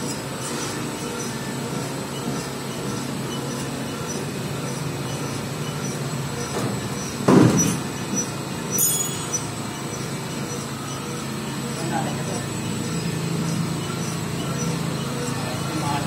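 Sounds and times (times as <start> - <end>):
belt conveyor mechanical hum: 0.0 - 16.0.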